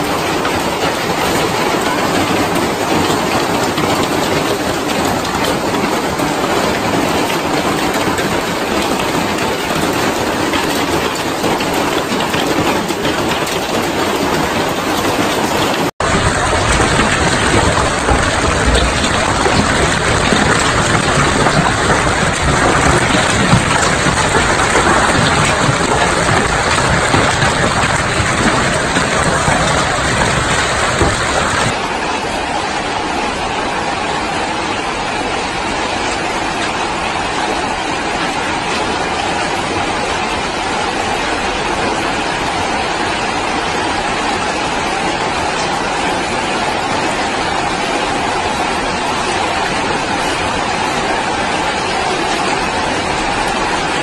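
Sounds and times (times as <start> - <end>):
hail clattering: 0.0 - 32.1, 33.9 - 54.0.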